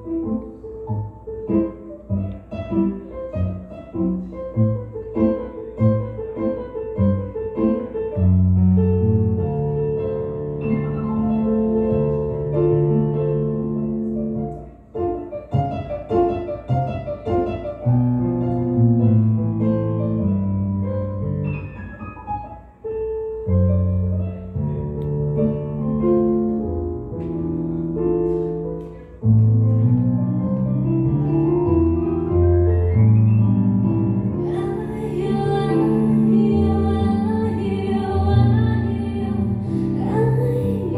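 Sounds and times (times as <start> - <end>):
electric piano playing held chords: 0.0 - 40.9.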